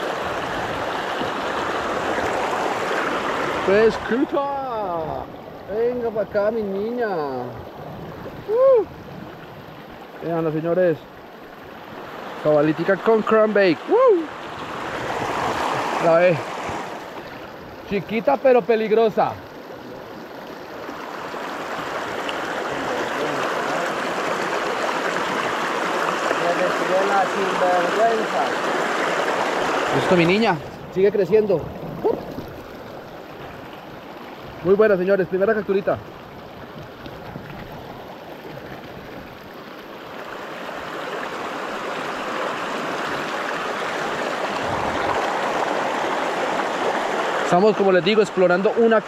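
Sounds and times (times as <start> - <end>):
creek rushing over rocks: 0.0 - 49.0.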